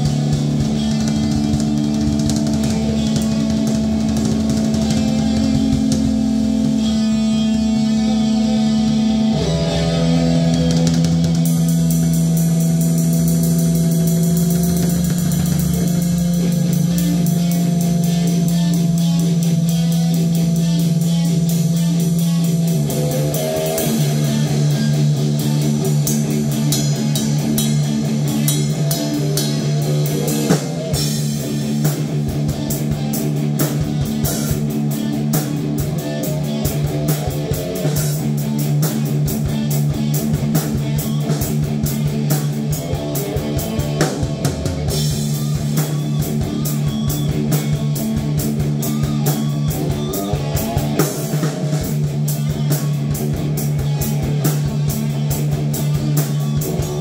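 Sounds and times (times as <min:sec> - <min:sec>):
drum kit: 0:00.0 - 0:57.0
electric guitar riff: 0:00.0 - 0:57.0.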